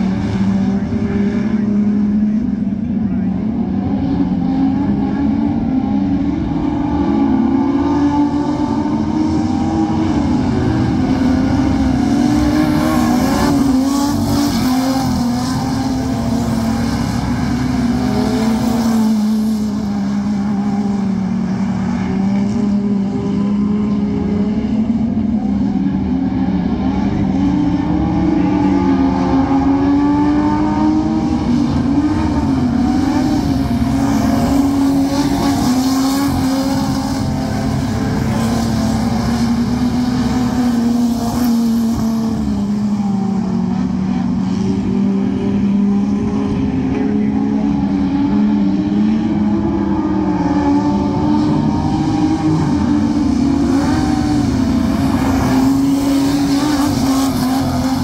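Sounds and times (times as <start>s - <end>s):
racing car engines accelerating: 0.0s - 58.0s.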